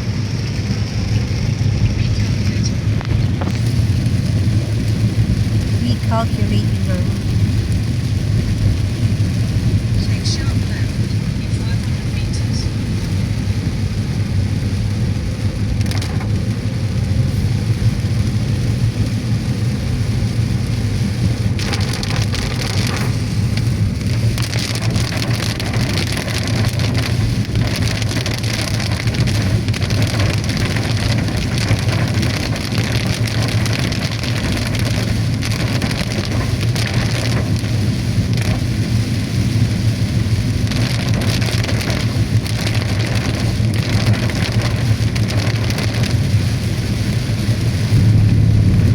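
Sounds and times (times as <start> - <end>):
car engine and tyres hum: 0.0 - 48.9
heavy rain on car: 0.0 - 48.9.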